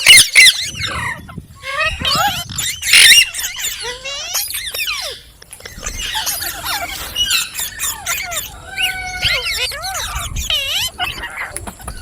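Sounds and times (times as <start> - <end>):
parakeet chattering and whistling: 0.0 - 11.5.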